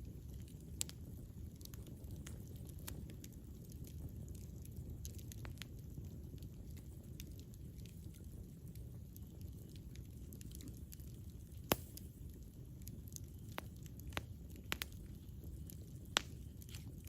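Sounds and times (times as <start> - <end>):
burning wood crackling and popping: 0.0 - 17.0
campfire flame rushing: 0.0 - 17.0.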